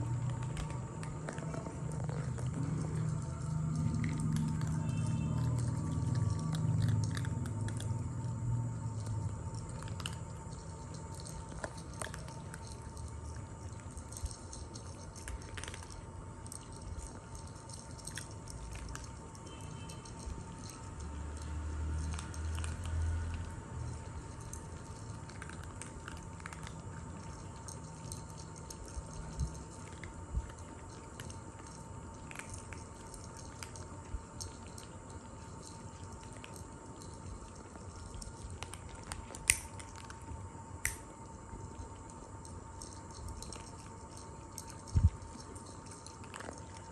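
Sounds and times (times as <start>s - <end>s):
kittens chewing food: 0.0s - 46.9s
steady hum: 0.0s - 46.9s
teeth clicking on food: 0.0s - 46.9s.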